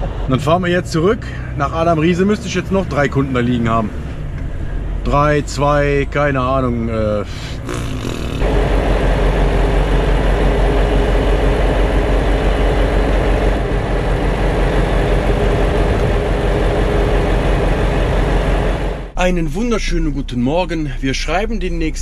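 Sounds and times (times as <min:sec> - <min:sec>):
diesel engine drone: 0:00.0 - 0:22.0.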